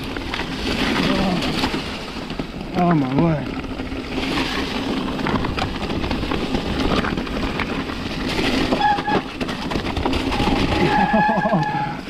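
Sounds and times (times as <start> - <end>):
bike clattering: 0.0 - 12.0
tyres rushing on mud and stones: 0.0 - 12.0.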